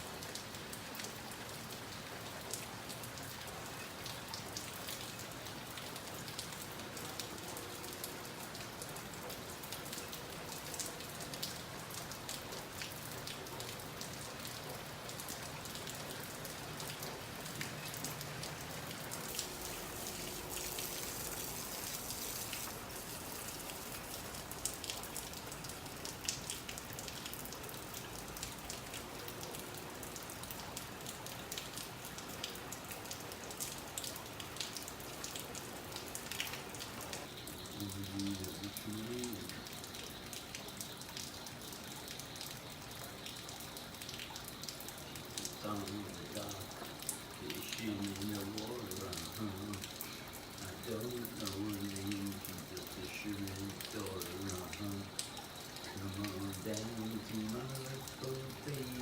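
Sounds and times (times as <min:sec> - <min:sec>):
rain drops pattering: 0:00.0 - 0:59.0.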